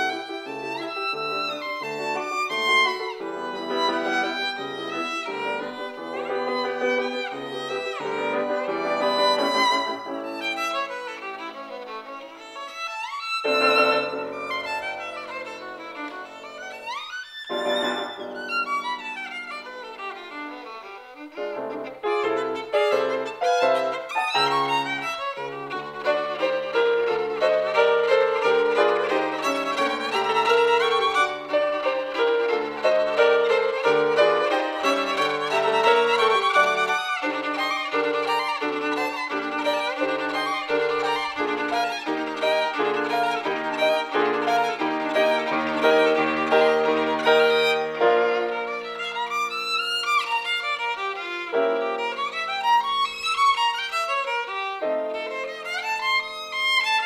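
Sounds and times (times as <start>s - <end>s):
grand piano accompaniment: 0.0s - 57.0s
solo violin: 0.0s - 57.0s.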